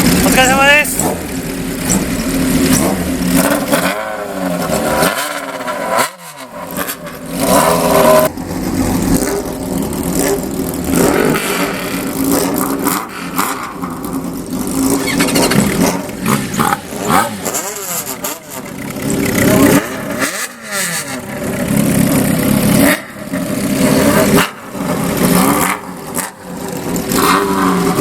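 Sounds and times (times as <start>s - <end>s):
motorcycles idling with throttle blips: 0.0s - 28.0s.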